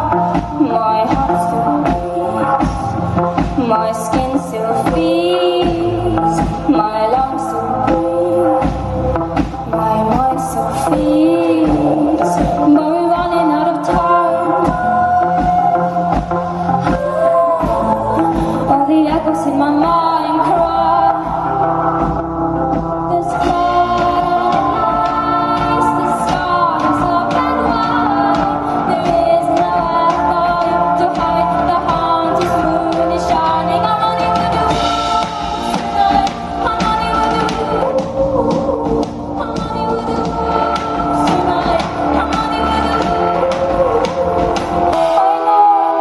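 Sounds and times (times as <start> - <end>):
live pop band playing: 0.0 - 46.0
woman singing wordless vocals: 0.0 - 46.0.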